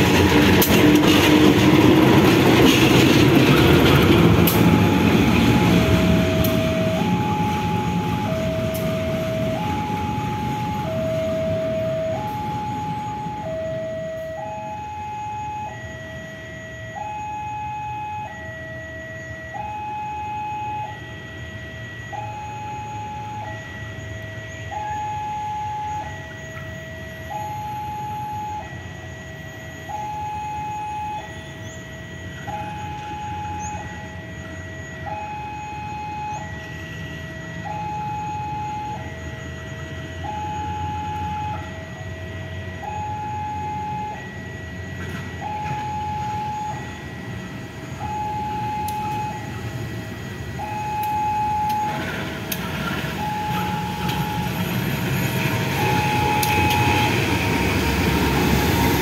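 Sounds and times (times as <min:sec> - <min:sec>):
diesel locomotive running: 0:00.0 - 0:59.0
two-tone crossing alarm: 0:00.0 - 0:59.0.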